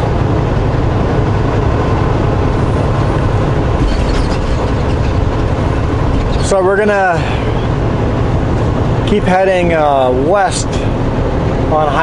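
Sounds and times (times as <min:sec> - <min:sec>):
truck engine drone: 0:00.0 - 0:12.0
tyre and road noise: 0:00.0 - 0:12.0.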